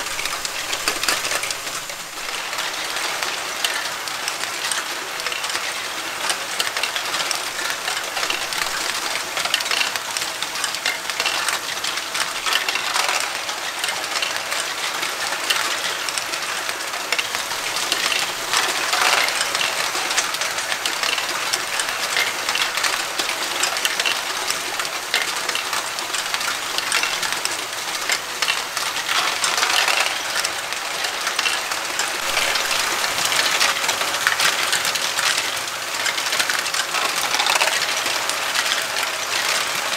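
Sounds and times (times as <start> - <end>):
plastic balls clicking and rattling: 0.0 - 39.9
toy motors whirring: 0.0 - 39.9.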